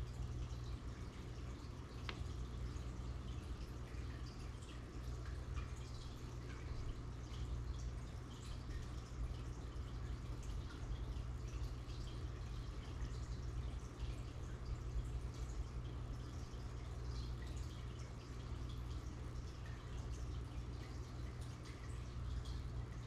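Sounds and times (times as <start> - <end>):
aquarium filter hum: 0.0 - 23.0
small drips and splashes: 0.0 - 23.0
water trickling and bubbling: 0.0 - 23.0.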